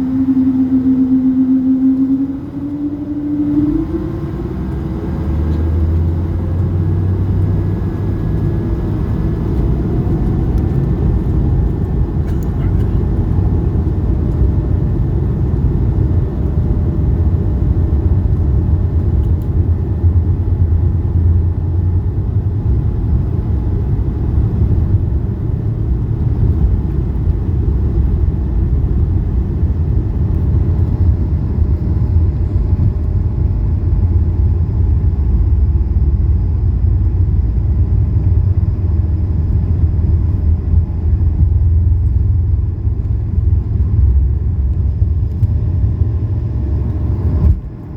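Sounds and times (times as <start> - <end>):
aircraft cabin engine rumble: 0.0 - 47.9.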